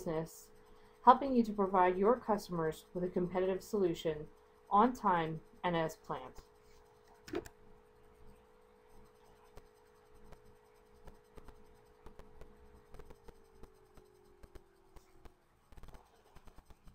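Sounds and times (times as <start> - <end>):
faint steady hum: 0.0 - 16.9.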